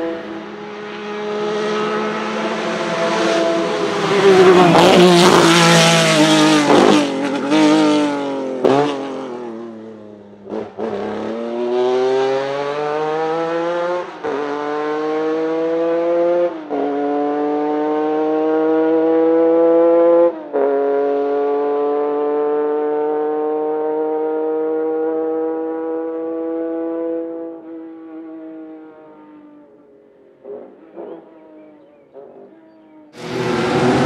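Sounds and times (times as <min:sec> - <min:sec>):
race car accelerating through gears: 0:00.0 - 0:29.7, 0:30.5 - 0:34.0
race car passing at speed: 0:00.0 - 0:29.8, 0:30.4 - 0:34.0.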